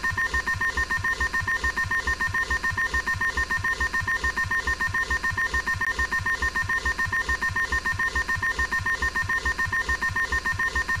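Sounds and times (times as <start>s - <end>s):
phone alarm beeping: 0.0s - 11.0s.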